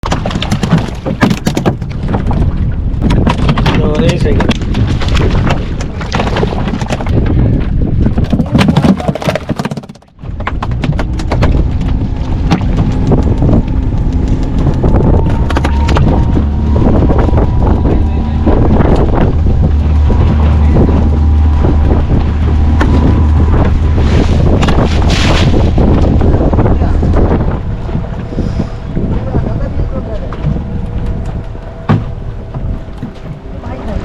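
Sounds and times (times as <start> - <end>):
wind buffeting microphone: 0.0 - 9.5, 10.1 - 34.0
boat engine running: 0.0 - 34.0.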